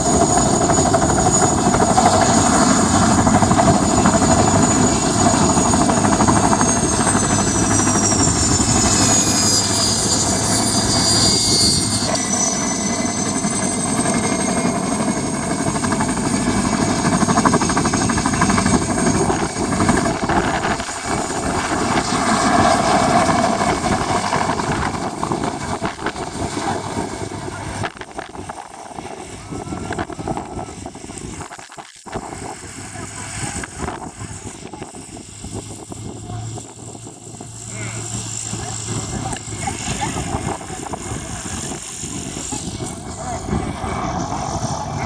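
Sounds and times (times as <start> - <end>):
helicopter engines and rotor: 0.0 - 45.0
high turbine whine: 0.0 - 45.0.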